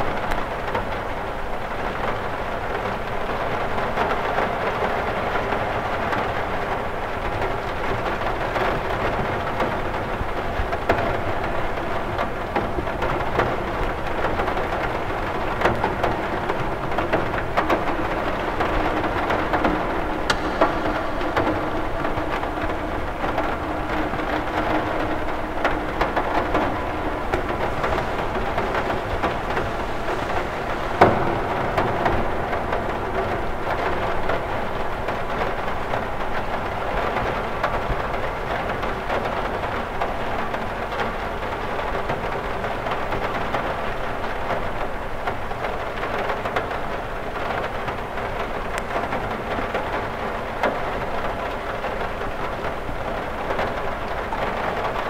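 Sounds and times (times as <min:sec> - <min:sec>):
rain ticking on glass: 0:00.0 - 0:55.0.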